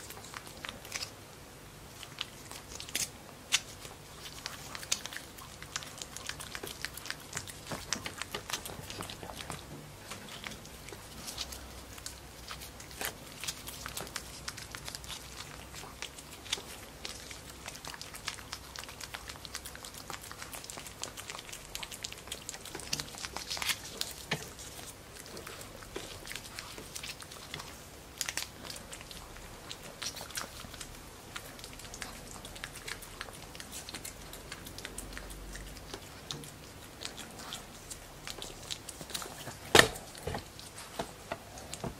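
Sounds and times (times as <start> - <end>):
puppy licking and smacking: 0.0 - 41.9.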